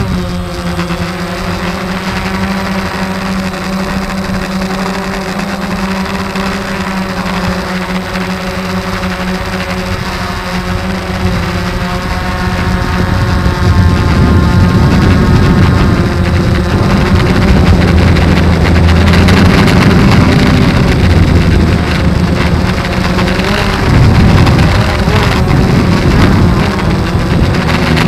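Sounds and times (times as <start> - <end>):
drone propellers humming: 0.0 - 28.0.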